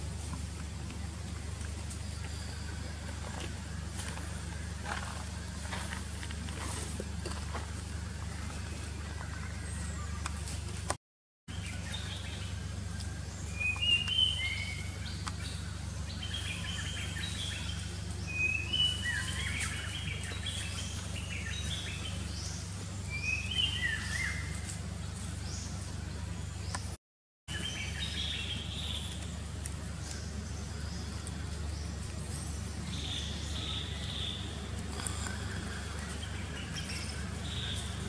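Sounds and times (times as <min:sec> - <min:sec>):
birds chirping: 0:00.0 - 0:38.0
low background hum: 0:00.0 - 0:38.0.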